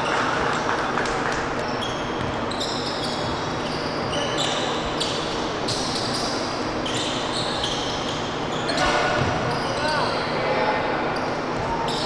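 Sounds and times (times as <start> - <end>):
sneakers squeaking: 1.6 - 10.4, 11.1 - 12.0.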